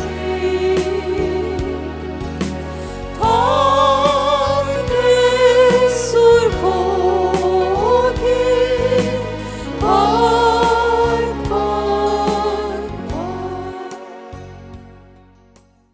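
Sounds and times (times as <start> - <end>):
voices singing worship song: 0.0 - 14.8
instrumental accompaniment with bass: 0.0 - 15.9.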